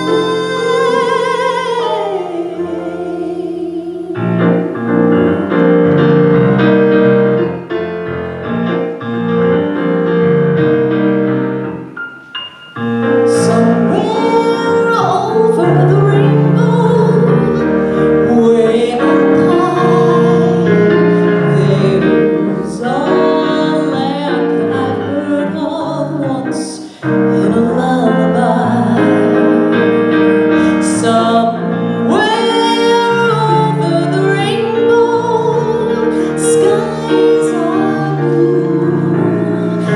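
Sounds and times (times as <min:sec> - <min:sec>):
woman singing slow song: 0:00.0 - 0:06.3, 0:13.2 - 0:39.9
piano accompaniment: 0:00.0 - 0:39.9.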